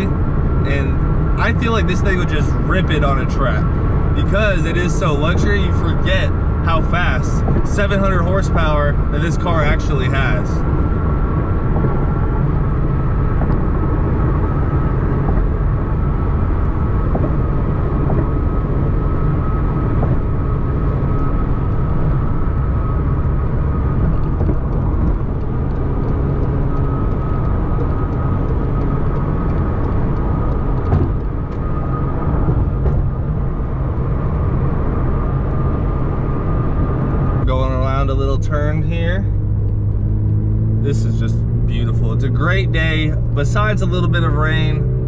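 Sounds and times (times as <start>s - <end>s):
car engine drone: 0.0s - 45.0s
tyres on road: 0.0s - 45.0s.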